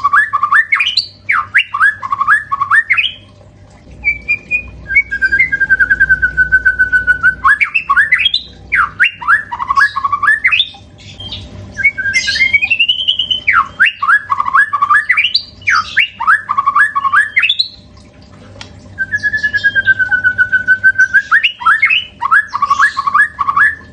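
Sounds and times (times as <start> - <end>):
songbird singing whistles: 0.0 - 3.3, 4.0 - 17.9, 19.0 - 23.9.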